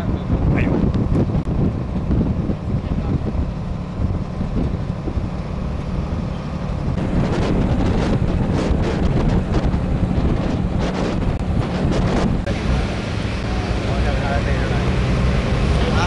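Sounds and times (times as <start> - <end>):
truck engine and road rumble: 0.0 - 16.0
wind buffeting microphone: 0.0 - 16.0.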